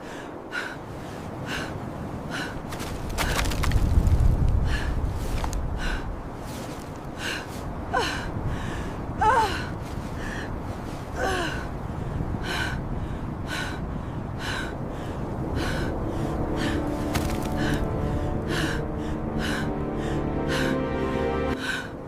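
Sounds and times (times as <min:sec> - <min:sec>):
low rush of wind: 0:00.0 - 0:22.0.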